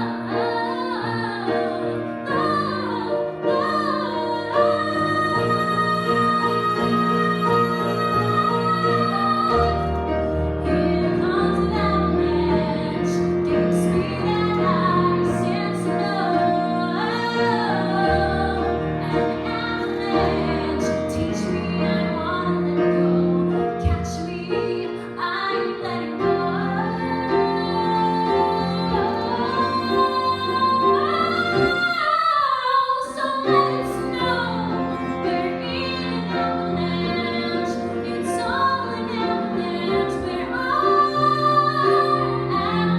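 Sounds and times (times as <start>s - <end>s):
piano accompaniment: 0.0s - 42.9s
woman singing: 0.0s - 42.9s.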